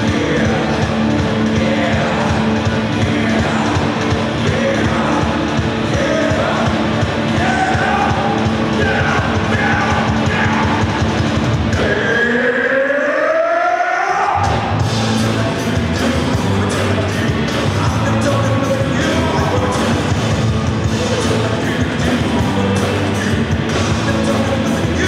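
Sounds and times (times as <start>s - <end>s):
person singing: 0.0s - 11.0s, 11.7s - 25.0s
rock band playing: 0.0s - 12.5s, 14.4s - 25.0s.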